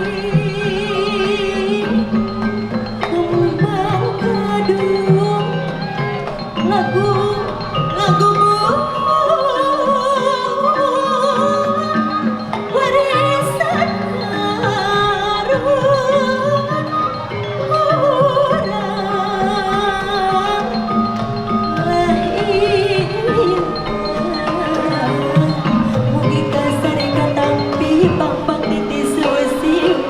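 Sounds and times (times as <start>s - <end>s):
gamelan ensemble playing: 0.0s - 30.0s.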